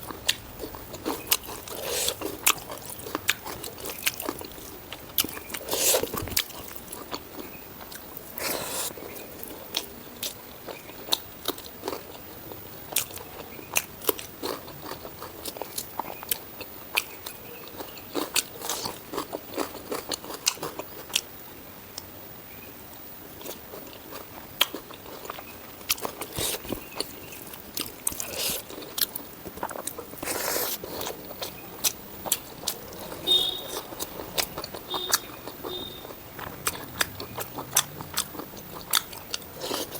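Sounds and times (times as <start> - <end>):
biting and chewing: 0.0 - 21.4, 23.3 - 39.9.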